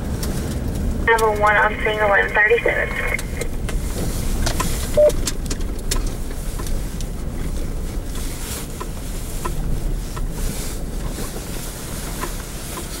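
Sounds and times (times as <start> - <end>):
vehicle rumbling on dirt road: 0.0 - 13.0.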